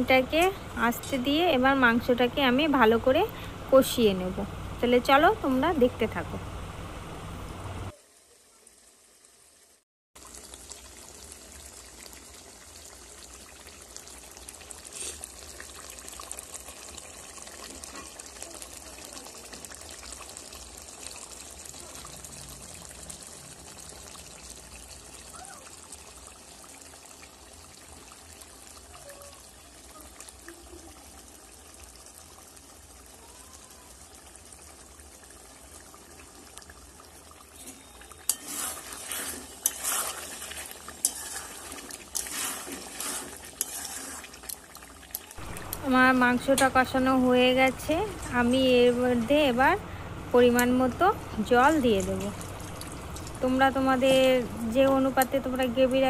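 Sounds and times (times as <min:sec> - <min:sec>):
curry sizzling and bubbling in oil: 0:00.0 - 0:56.0.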